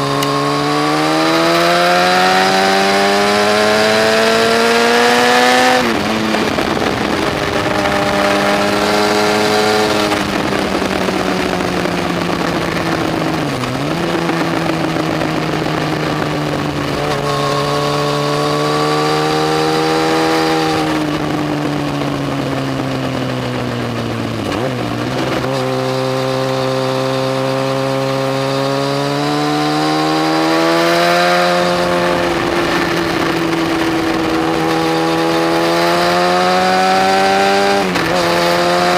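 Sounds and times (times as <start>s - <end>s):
motorcycle engine running hard: 0.0s - 38.9s
wind noise: 0.0s - 38.9s.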